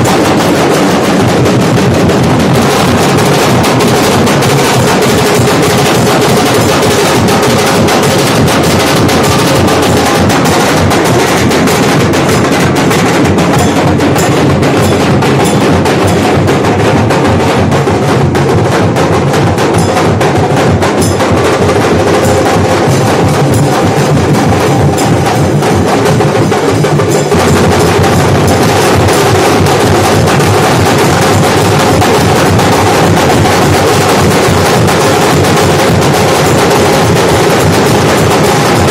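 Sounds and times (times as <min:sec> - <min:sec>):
barrel drums beaten with sticks: 0:00.0 - 0:38.9.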